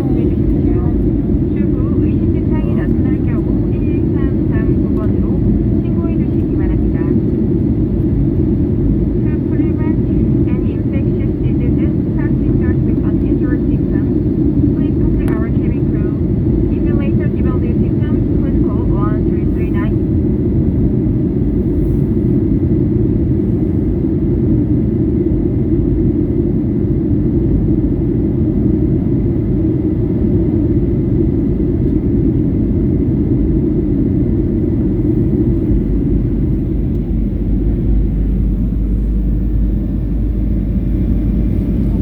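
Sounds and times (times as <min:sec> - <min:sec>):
airliner engine rumble: 0:00.0 - 0:42.0.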